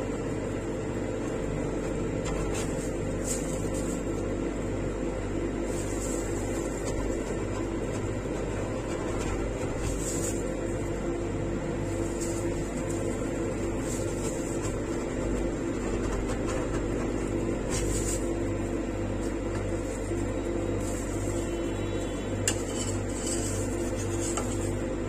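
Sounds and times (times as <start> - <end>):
machine compressor and fan hum: 0.0 - 25.0
spatula scraping frozen plate: 2.2 - 4.3, 5.6 - 11.1, 11.8 - 18.6, 19.2 - 25.0.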